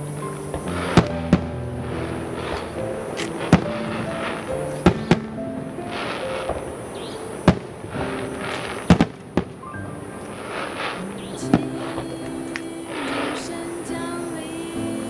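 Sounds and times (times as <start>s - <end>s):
fireworks bangs: 0.0s - 13.7s
music playing: 0.0s - 15.0s.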